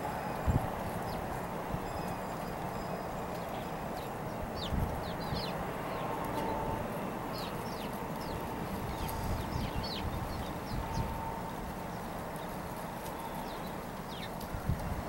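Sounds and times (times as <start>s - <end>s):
birds chirping: 0.0s - 14.5s
low outdoor rumble: 0.0s - 15.0s.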